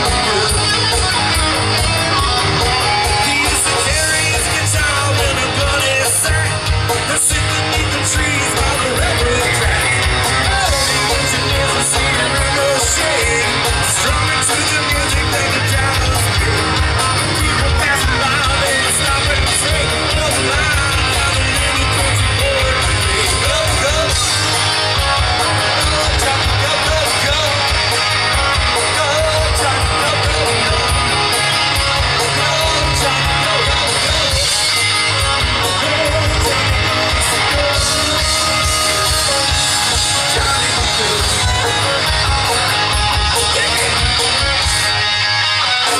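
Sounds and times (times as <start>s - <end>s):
electric guitar: 0.0s - 45.9s
person singing: 0.0s - 45.9s
rockabilly band playing: 0.0s - 45.9s
steady drum beat: 0.0s - 45.9s.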